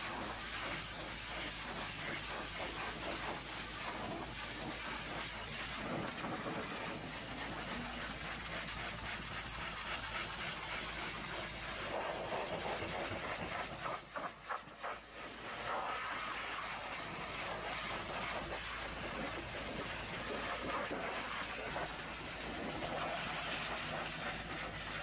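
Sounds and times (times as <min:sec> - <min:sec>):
pressure washer jet hissing: 0:00.0 - 0:25.0.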